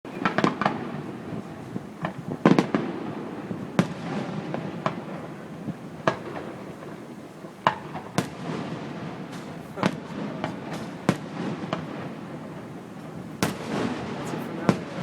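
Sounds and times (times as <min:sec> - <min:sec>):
fireworks bangs: 0:00.1 - 0:15.0.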